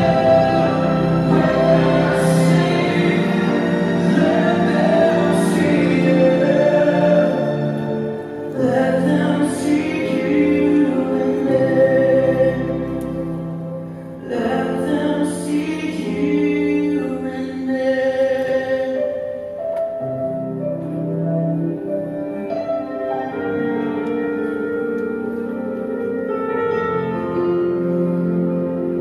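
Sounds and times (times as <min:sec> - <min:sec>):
slow vocal music: 0:00.0 - 0:29.0.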